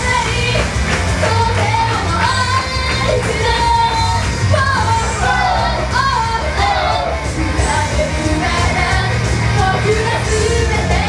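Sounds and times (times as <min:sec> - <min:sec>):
female singers singing: 0:00.0 - 0:11.0
pop backing music with bass beat: 0:00.0 - 0:11.0.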